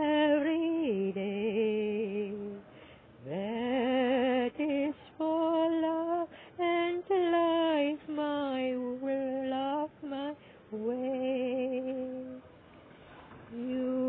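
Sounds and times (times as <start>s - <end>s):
woman singing unaccompanied: 0.0s - 12.5s, 13.4s - 14.0s.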